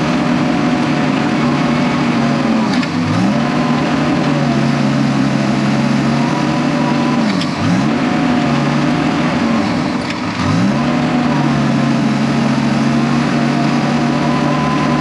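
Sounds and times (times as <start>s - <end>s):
diesel engine running hard: 0.0s - 15.0s.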